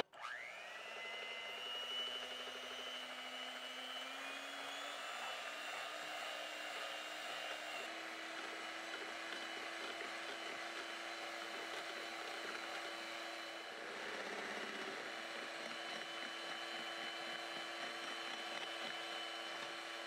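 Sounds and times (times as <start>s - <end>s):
electric hand mixer whipping batter: 0.0s - 20.0s.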